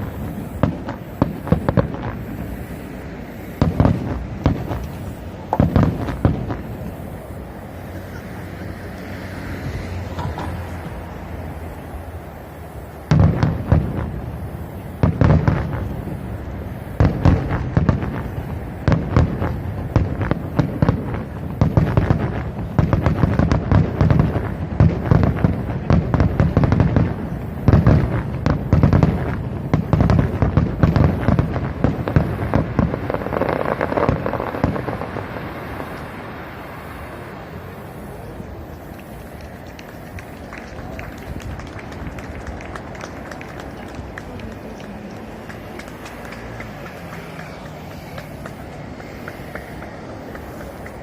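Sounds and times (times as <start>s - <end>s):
fireworks bangs and crackles: 0.0s - 51.0s.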